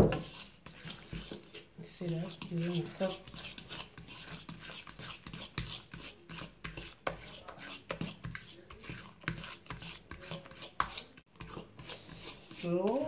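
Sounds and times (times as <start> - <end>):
utensil stirring thick batter: 0.0 - 13.0.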